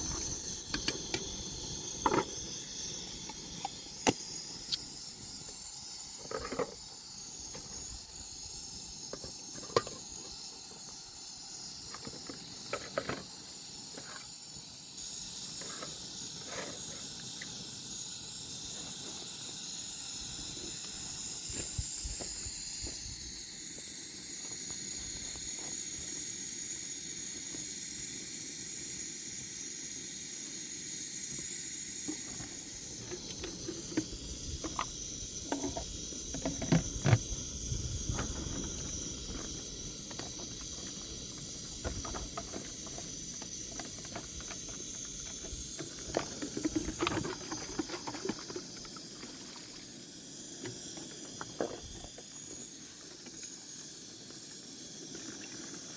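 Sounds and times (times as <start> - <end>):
high-pitched hiss: 0.0 - 55.9.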